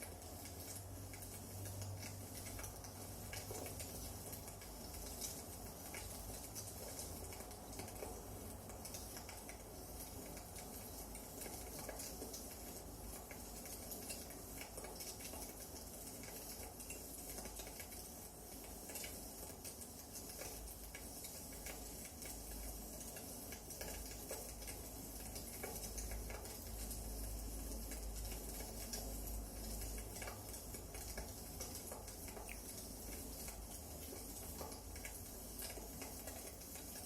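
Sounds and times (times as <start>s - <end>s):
firewood crackling and popping: 0.0s - 37.0s.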